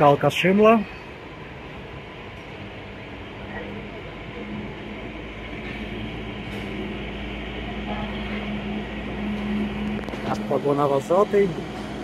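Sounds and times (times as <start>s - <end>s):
train coaches rumbling on rails: 0.0s - 12.0s
train engine hum: 0.0s - 12.0s.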